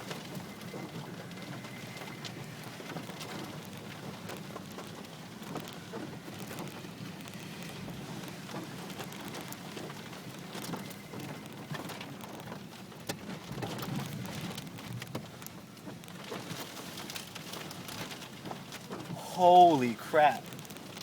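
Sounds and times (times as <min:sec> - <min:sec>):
raindrops ticking: 0:00.0 - 0:21.0
steady rain: 0:00.0 - 0:21.0.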